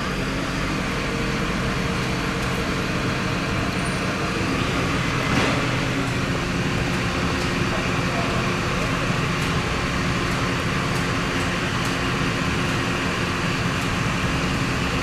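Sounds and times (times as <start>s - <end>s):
large vehicle engine running: 0.0s - 15.0s.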